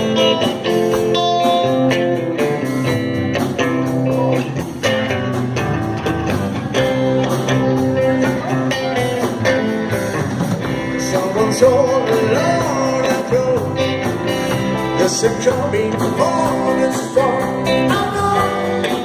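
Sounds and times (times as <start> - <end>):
bass and drums beat: 0.0 - 19.0
strummed guitars: 0.0 - 19.0.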